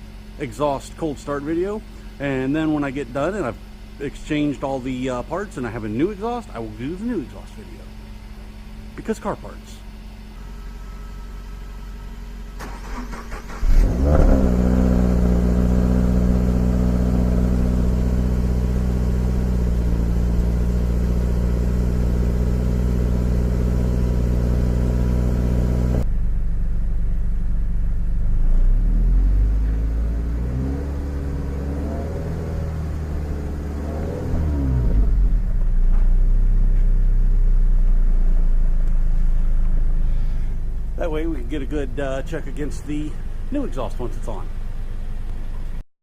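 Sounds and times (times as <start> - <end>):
car engine idling: 0.0 - 45.8.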